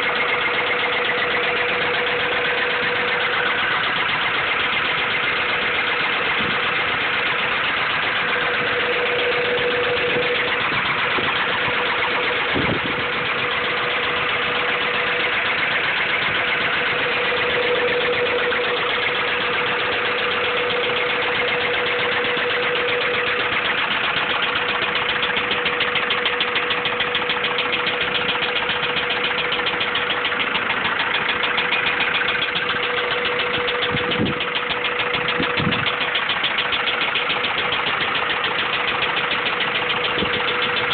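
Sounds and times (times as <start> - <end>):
engine running with knock: 0.0 - 40.9
steady whine: 0.0 - 40.9.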